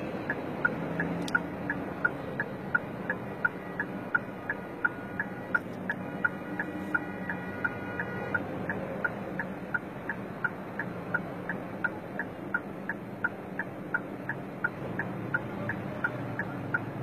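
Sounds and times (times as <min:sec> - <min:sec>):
low traffic hum: 0:00.0 - 0:17.0
turn signal ticking: 0:00.0 - 0:17.0.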